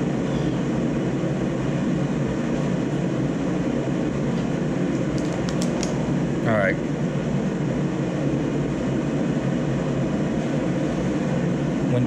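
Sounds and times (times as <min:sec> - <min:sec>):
heater rumbling whir: 0:00.0 - 0:12.0.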